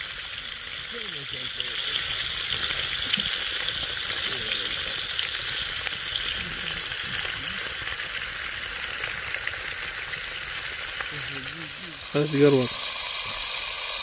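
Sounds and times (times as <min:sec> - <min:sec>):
crackles and pops of frying: 0:00.0 - 0:14.0
fish sizzling in a pan: 0:00.0 - 0:14.0.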